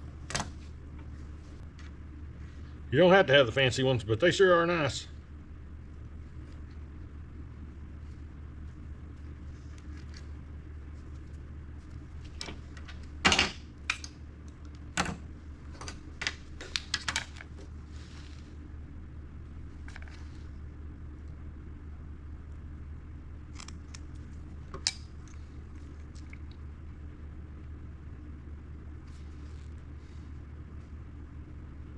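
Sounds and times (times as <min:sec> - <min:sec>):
low hum: 0:00.0 - 0:31.9.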